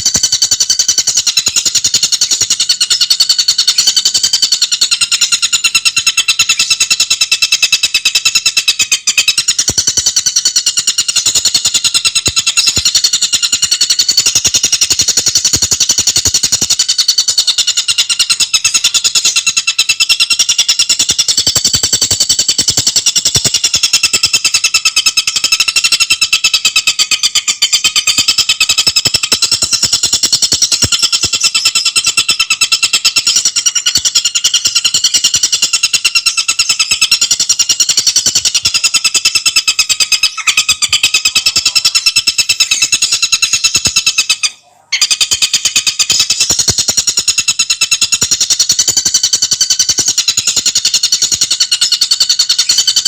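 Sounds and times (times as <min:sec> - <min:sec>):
bird singing fast trill: 0:00.0 - 0:53.0.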